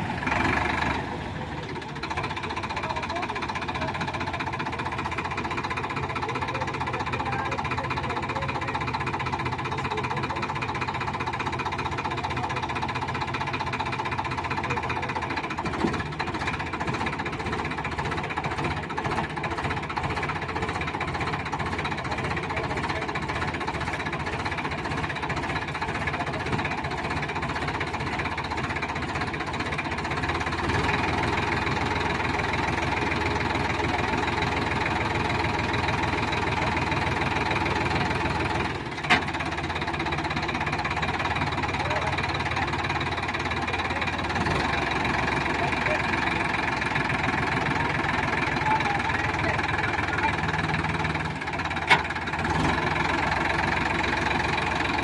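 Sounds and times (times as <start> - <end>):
diesel tractor engine knocking: 0.0 - 55.0.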